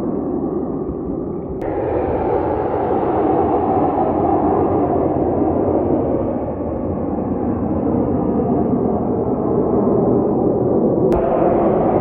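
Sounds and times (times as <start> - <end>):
jet aircraft rushing noise: 0.0 - 12.0.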